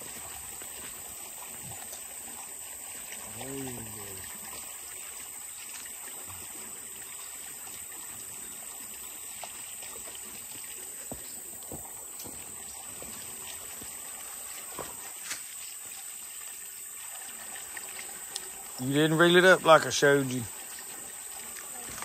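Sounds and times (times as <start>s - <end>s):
creek water trickling: 0.0s - 22.0s.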